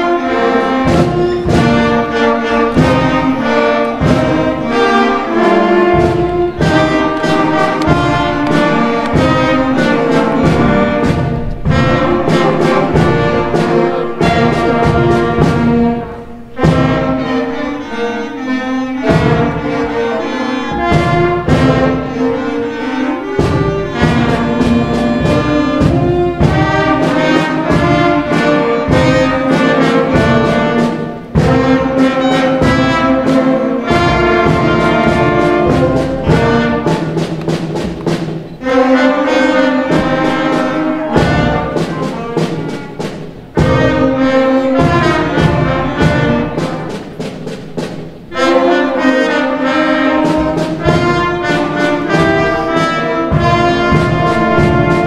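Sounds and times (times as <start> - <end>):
concert band playing: 0.0 - 55.0.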